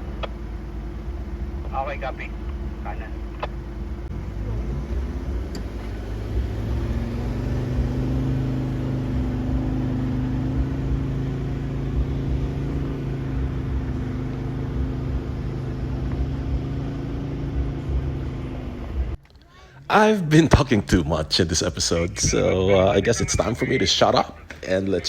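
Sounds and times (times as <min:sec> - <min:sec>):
vehicle engine droning: 0:00.0 - 0:25.0
vehicle rumbling on rough ground: 0:00.0 - 0:25.0.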